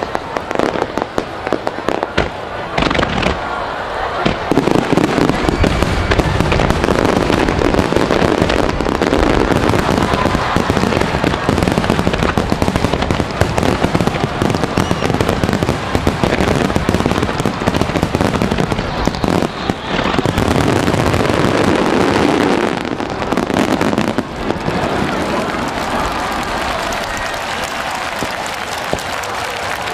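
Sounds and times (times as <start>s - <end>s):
fireworks bangs and crackle: 0.0s - 29.9s.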